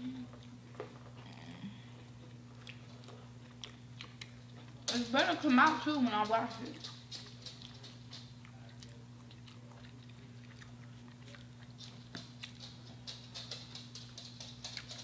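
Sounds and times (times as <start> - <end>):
chewing crunchy food: 0.1 - 15.0.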